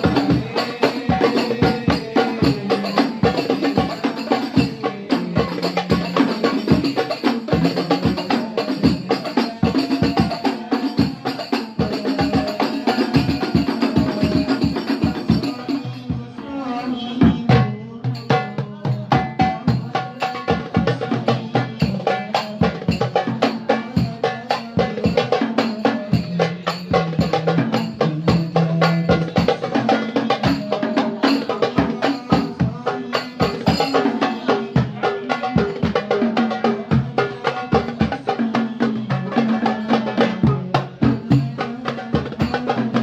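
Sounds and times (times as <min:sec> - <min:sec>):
hand drums in fast rhythm: 0:00.0 - 0:43.0.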